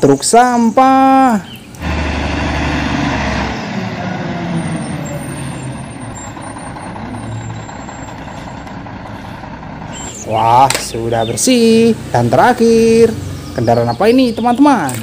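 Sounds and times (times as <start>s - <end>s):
garbage truck diesel engine running: 1.4s - 14.7s.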